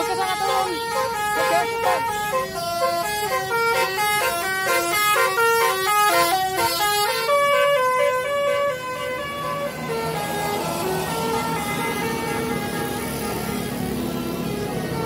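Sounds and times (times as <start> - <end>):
musical air horn melody: 0.0 - 15.0
street traffic noise: 0.0 - 15.0.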